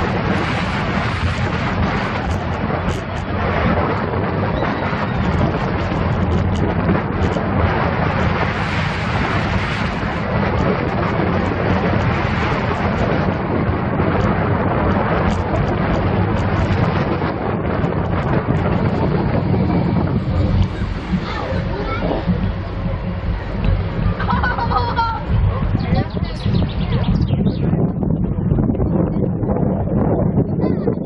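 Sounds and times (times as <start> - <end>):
roller coaster wheels rumbling on rails: 0.0 - 31.0
wind buffeting microphone: 0.0 - 31.0.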